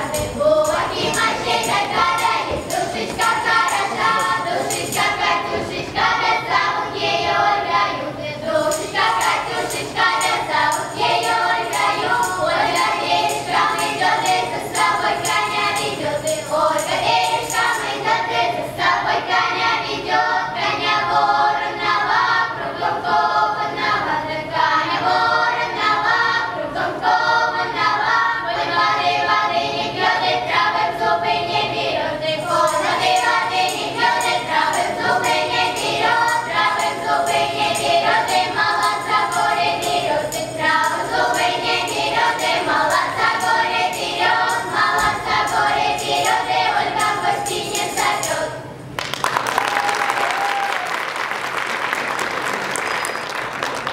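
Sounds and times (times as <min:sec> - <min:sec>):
children's choir singing folk song: 0:00.0 - 0:49.0.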